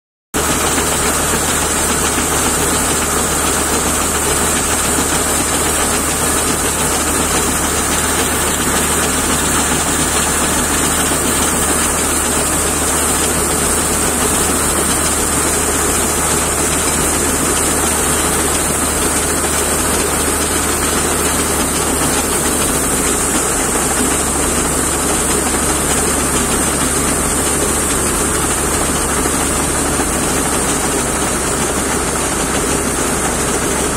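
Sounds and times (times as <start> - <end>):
heavy diesel engine running: 0.4 - 33.9.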